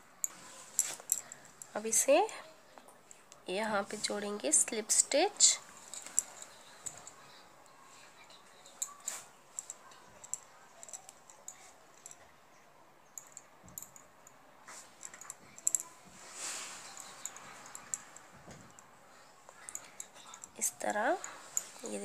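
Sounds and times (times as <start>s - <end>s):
soft rustle: 0.2s - 12.2s, 14.6s - 22.0s.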